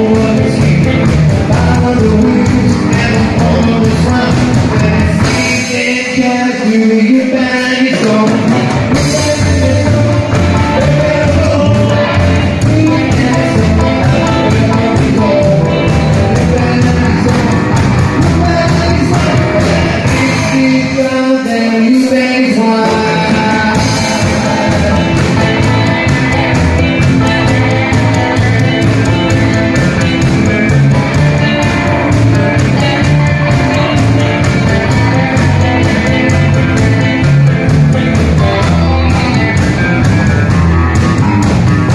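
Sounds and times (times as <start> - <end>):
double bass: 0.0 - 5.6, 8.1 - 20.8, 23.4 - 41.9
person singing lead vocal: 0.0 - 41.9
rock and roll band playing: 0.0 - 41.9.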